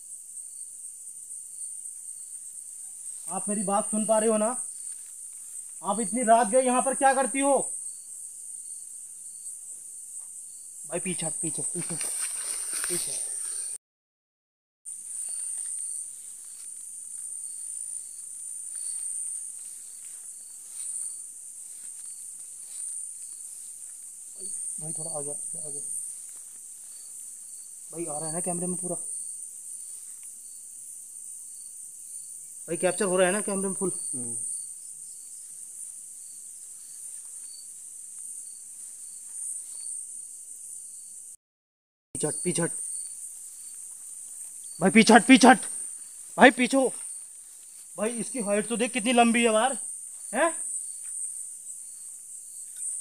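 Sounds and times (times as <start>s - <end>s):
crickets chirring: 0.0s - 13.8s, 14.9s - 41.4s, 42.2s - 53.0s.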